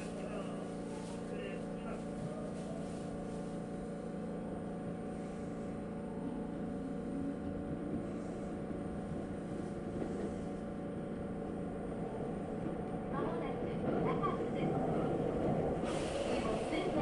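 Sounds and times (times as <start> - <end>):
electric train rumbling on rails: 0.0 - 17.0.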